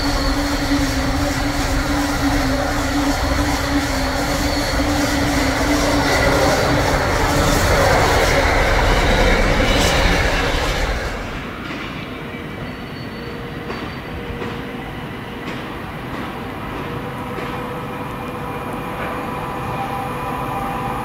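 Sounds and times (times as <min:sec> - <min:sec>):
distant diesel train rumble: 0:00.0 - 0:21.0.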